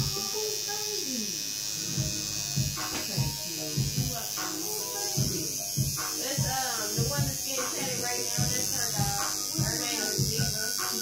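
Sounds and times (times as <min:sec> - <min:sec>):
tattoo machine buzzing: 0:00.0 - 0:11.0.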